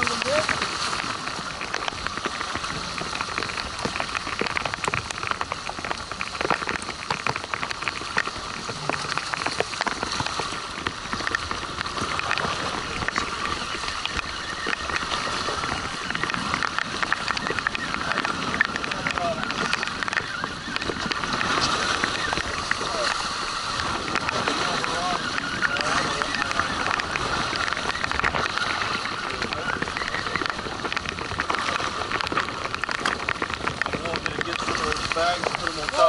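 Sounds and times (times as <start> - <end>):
constant hiss: 0.0 - 36.0
rain pattering on rain gear: 0.0 - 36.0.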